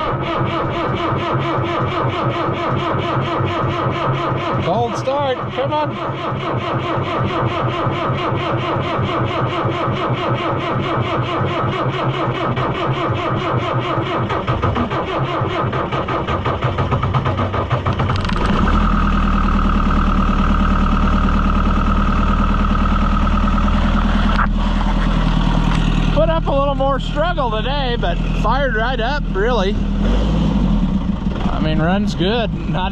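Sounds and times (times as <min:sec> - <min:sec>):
tractor engine cranking: 0:00.0 - 0:32.9
tractor engine idling: 0:00.0 - 0:32.9.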